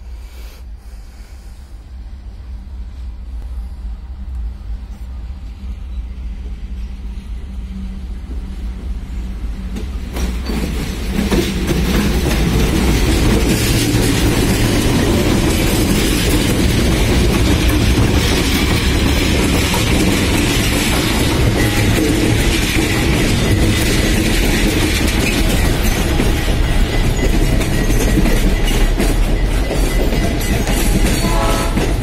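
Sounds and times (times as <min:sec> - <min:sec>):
diesel locomotive engine rumble: 0:00.0 - 0:32.0
train wheels clacking over rails: 0:06.4 - 0:32.0.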